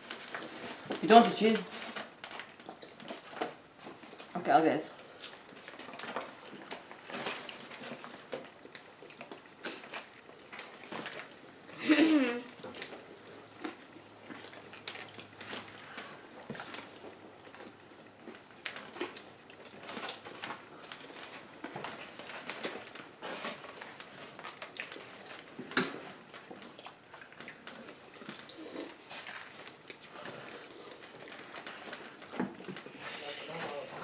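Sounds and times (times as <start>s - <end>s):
people chewing and biting: 5.0s - 34.0s.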